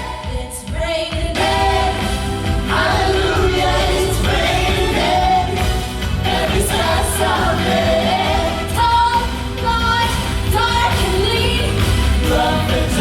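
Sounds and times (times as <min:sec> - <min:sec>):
voices singing held notes: 0:00.0 - 0:13.0
loud music with heavy bass: 0:01.4 - 0:13.0.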